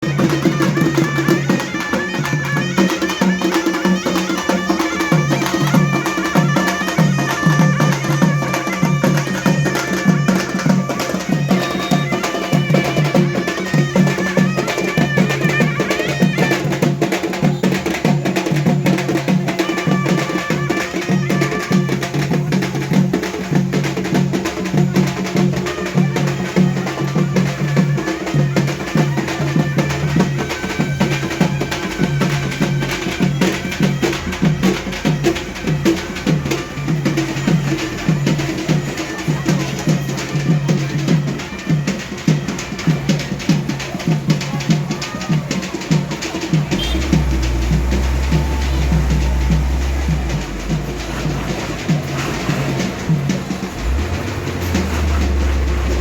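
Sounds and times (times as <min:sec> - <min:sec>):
traditional music with drumming: 0:00.0 - 0:56.0.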